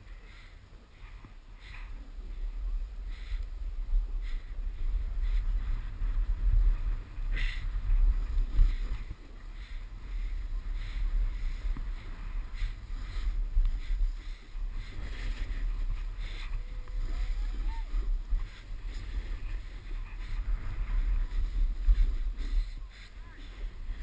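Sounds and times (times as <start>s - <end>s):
wind buffeting microphone: 0.0s - 24.0s
ski edges scraping snow: 4.3s - 24.0s.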